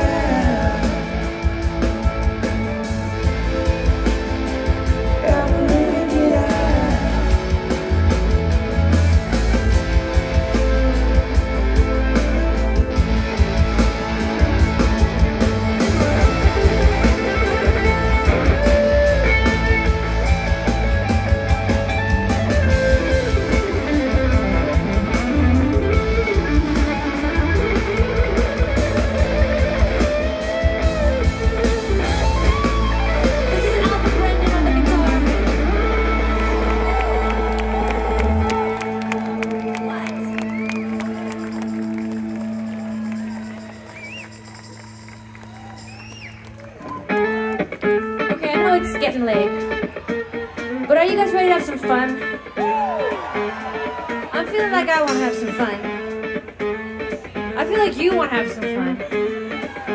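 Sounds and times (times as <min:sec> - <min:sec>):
electric guitar: 0:00.0 - 0:59.9
live band playing: 0:00.0 - 0:59.9.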